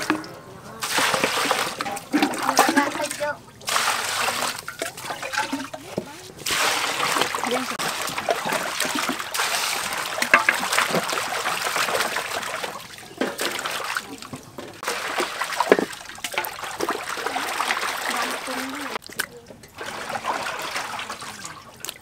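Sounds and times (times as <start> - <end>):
water splashing in a metal basin: 0.0 - 22.0.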